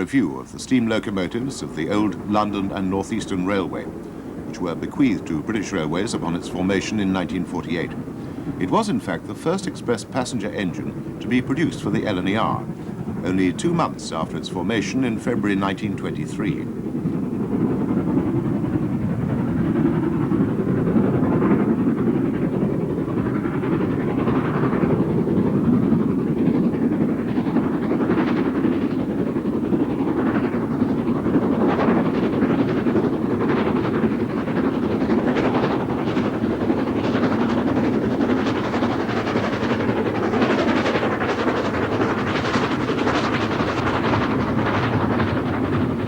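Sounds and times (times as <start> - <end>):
steam locomotive rumble: 0.0 - 46.0.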